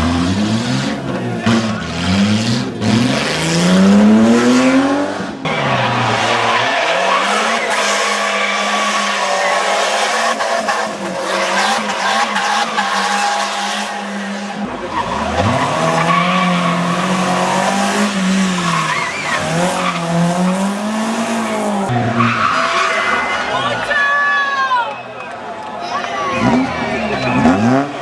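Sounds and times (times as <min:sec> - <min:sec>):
race car engine revving: 0:00.0 - 0:23.9, 0:26.2 - 0:28.0.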